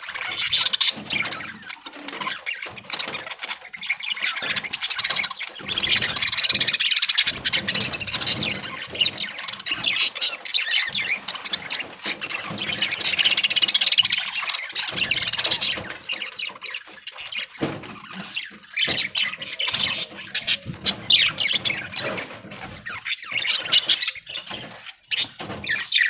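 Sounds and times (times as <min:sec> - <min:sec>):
flock of budgerigars chattering: 0:00.0 - 0:26.0.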